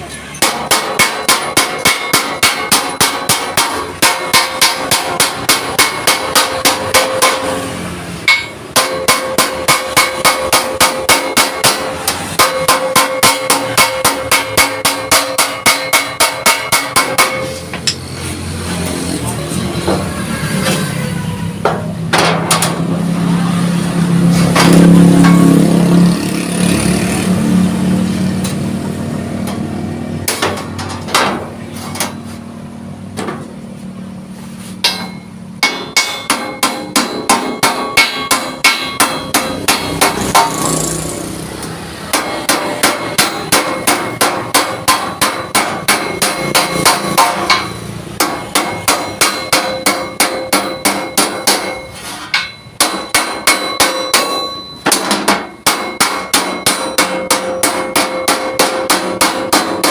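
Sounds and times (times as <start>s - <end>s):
hammer striking steel plate: 0.2s - 19.0s, 21.6s - 32.3s, 34.8s - 41.3s, 42.0s - 59.9s.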